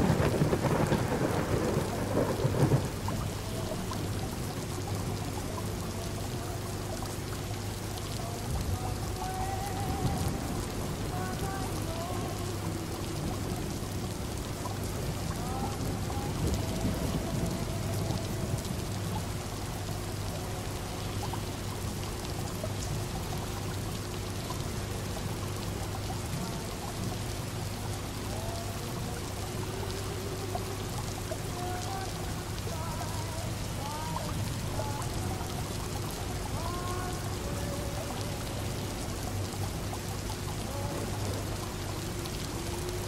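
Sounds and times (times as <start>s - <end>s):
fish tank humming and gurgling: 0.0s - 43.0s
rain against a window: 0.0s - 43.0s.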